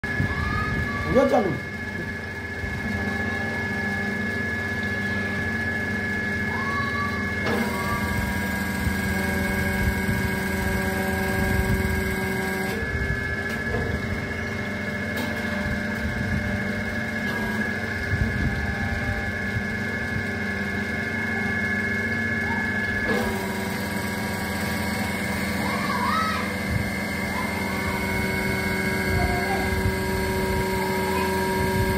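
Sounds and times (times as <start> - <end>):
hydraulic press motor humming: 0.0 - 31.9
hydraulic pump whine: 0.0 - 31.9.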